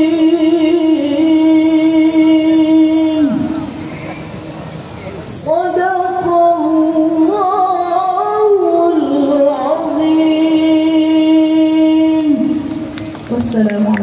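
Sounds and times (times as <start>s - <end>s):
woman reciting melodically: 0.0s - 3.8s, 5.3s - 14.0s.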